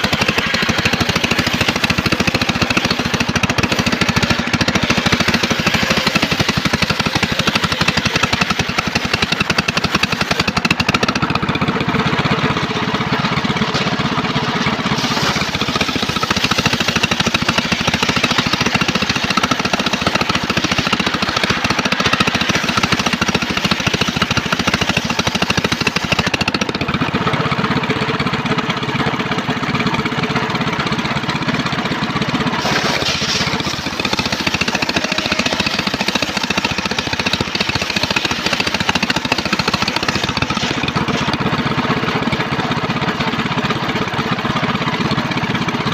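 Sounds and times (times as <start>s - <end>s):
circular saw cutting log: 0.0s - 27.2s, 32.2s - 43.9s
engine chugging: 0.0s - 45.9s.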